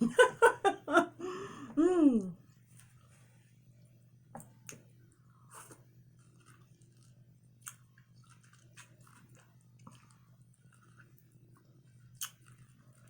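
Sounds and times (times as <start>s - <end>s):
faint wet chewing: 2.5s - 13.0s.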